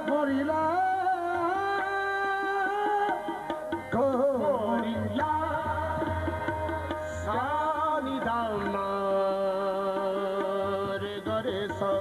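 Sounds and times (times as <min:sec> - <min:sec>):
harmonium: 0:00.0 - 0:12.0.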